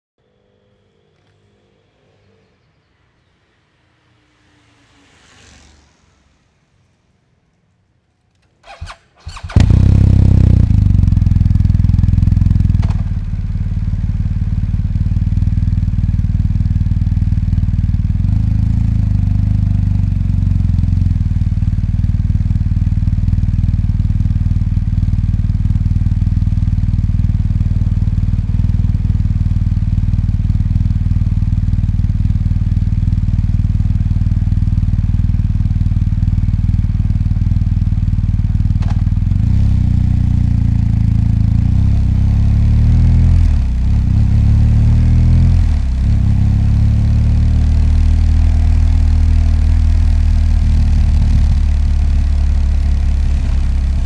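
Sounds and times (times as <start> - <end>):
motorcycle engine starting and idling: 8.3 - 54.0.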